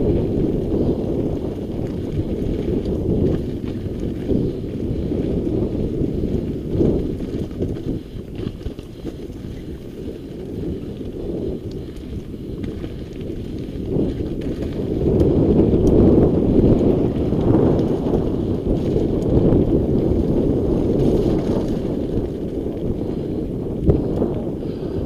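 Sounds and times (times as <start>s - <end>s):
bike rattling: 0.0s - 25.0s
bike tyres rumbling over gravel: 0.0s - 25.0s
wind noise on microphone: 0.0s - 25.0s.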